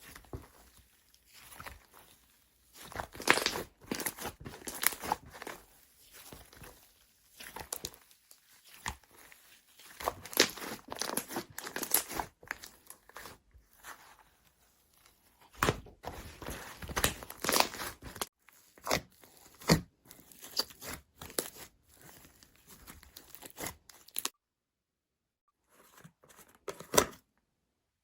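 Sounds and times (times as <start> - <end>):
slime crackling and crunching: 0.0 - 24.3.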